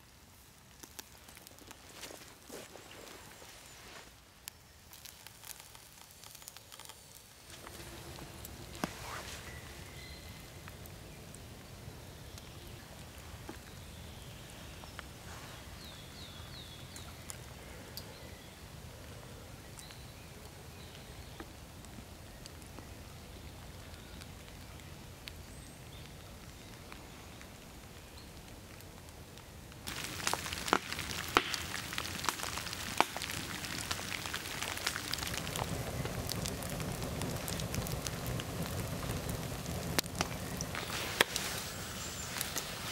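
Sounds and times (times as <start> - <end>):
rain on puddles and leaves: 0.0 - 18.2, 19.7 - 42.9
forest ambience: 0.0 - 42.9.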